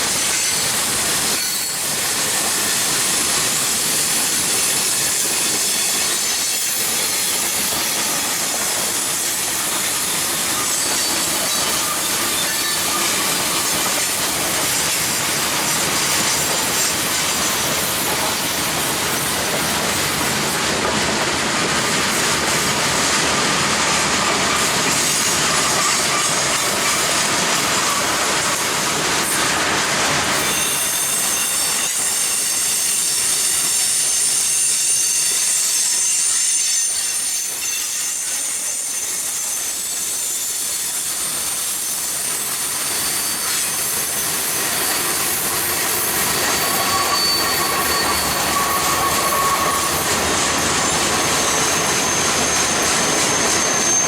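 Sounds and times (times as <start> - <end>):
train wheels clattering on rails: 0.0 - 54.0
high wheel squeal: 0.1 - 20.5, 23.5 - 29.5, 30.3 - 54.0.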